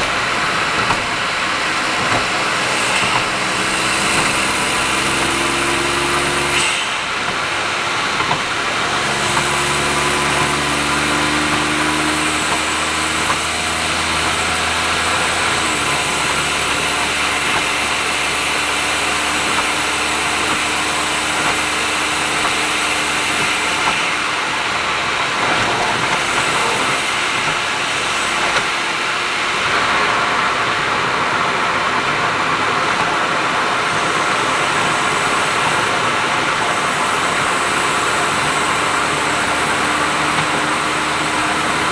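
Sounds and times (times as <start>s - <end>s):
car engine cruising: 0.0s - 41.9s
road and tyre noise: 0.0s - 41.9s.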